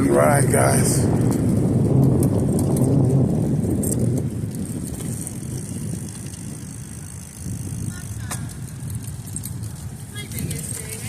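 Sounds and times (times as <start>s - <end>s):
bicycle ride rumble: 0.0s - 11.0s
road traffic: 0.0s - 11.0s
wind on microphone: 0.0s - 11.0s.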